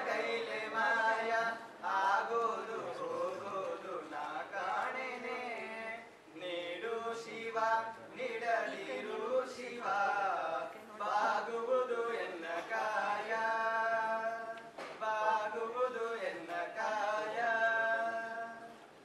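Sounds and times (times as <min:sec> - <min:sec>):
young men singing devotional song: 0:00.0 - 0:18.8.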